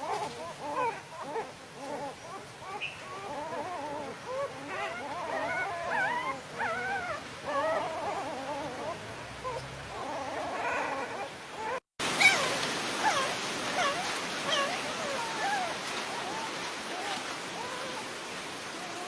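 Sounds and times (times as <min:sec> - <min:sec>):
dogs whimpering and whining: 0:00.0 - 0:18.1.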